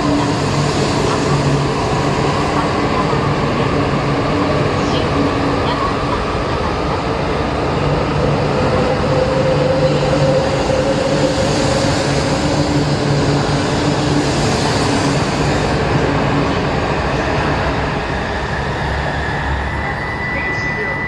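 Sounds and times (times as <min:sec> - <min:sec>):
rising train whine: 0:00.0 - 0:21.0
train rushing past: 0:00.0 - 0:21.0.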